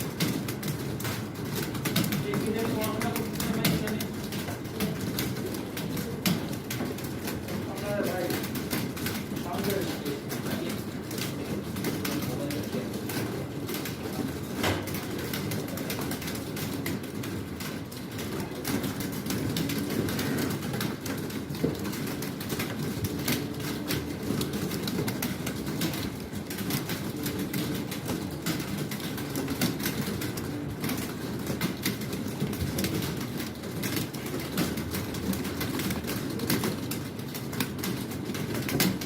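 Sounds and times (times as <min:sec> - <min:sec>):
many keyboards typing: 0:00.0 - 0:39.0.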